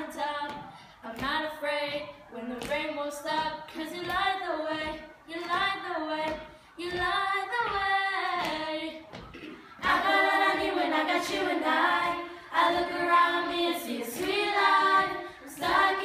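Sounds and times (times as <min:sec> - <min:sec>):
girls singing unaccompanied: 0:00.0 - 0:16.0.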